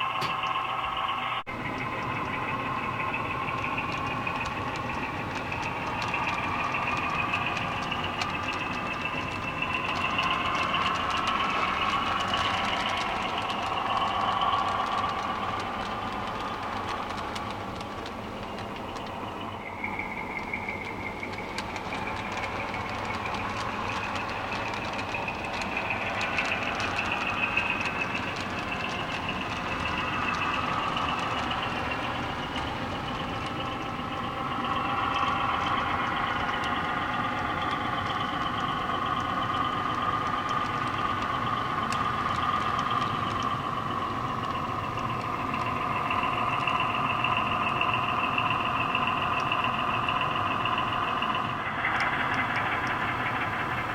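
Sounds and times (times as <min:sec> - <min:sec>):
model train running: 0:00.0 - 0:53.9
faint clicks: 0:00.1 - 0:53.9.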